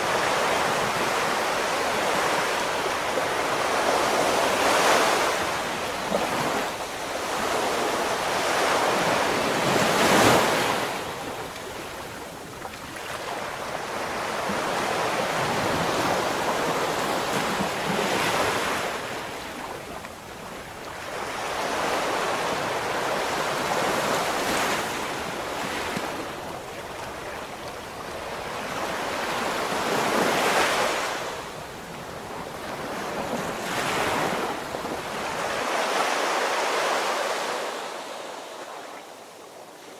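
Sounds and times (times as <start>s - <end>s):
ocean waves breaking: 0.0s - 38.8s.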